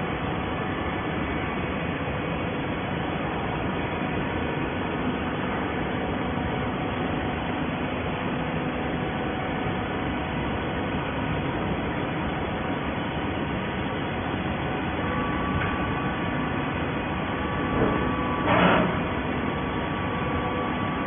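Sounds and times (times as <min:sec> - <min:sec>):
baler machine hum and whir: 0:00.0 - 0:21.0.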